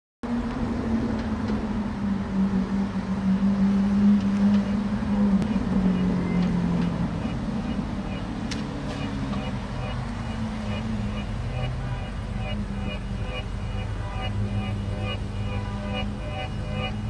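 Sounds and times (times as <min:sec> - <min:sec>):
car engine low drone: 0:00.3 - 0:17.0.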